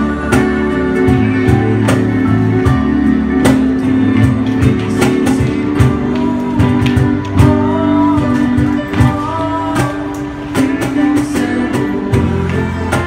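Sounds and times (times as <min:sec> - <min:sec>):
electric bass: 0:00.0 - 0:13.0
electric guitar: 0:00.0 - 0:13.0
keyboard: 0:00.0 - 0:13.0.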